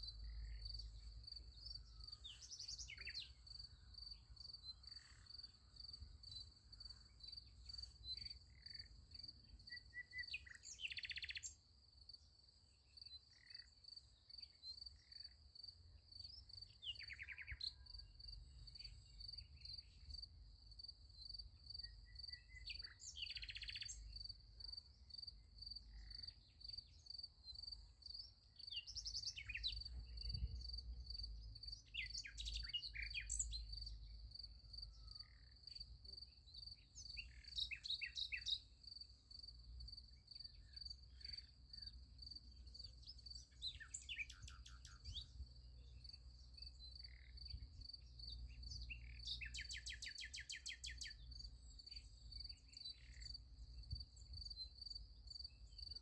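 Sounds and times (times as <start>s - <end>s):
crickets chirping: 0.0s - 56.0s
songbirds singing: 0.0s - 56.0s.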